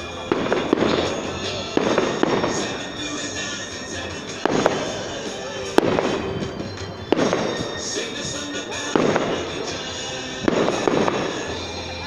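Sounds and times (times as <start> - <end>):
background music: 0.0 - 12.0
firework shells bursting: 0.0 - 12.0.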